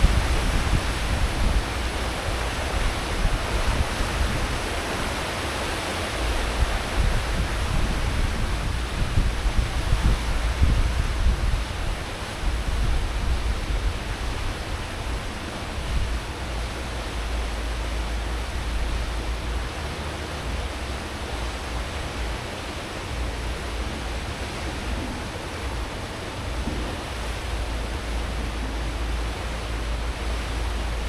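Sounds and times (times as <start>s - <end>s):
wake water churning: 0.0s - 31.0s.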